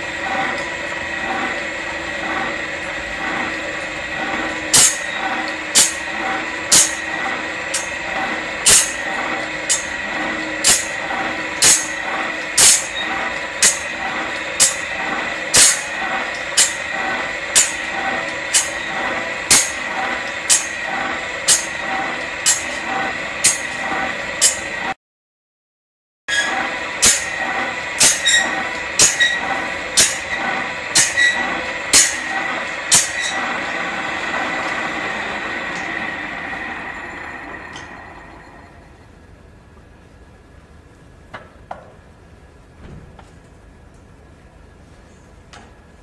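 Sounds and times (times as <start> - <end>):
sharpening machine motor whine: 0.0 - 24.9, 26.3 - 39.2.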